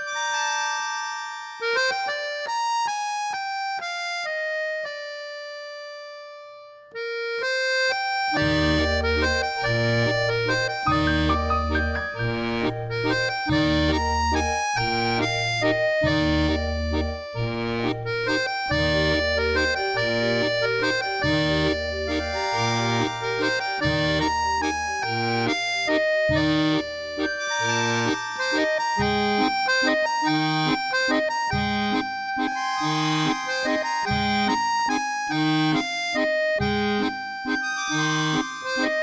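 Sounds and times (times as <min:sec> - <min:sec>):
accordion music: 0:00.0 - 0:39.0.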